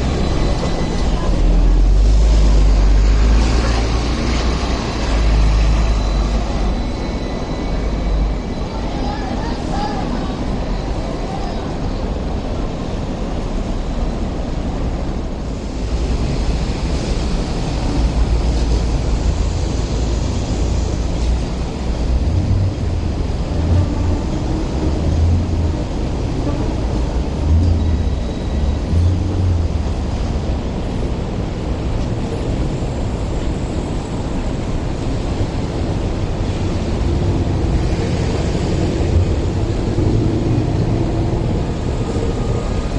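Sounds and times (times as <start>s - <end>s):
rumble of trams and traffic: 0.0s - 42.9s.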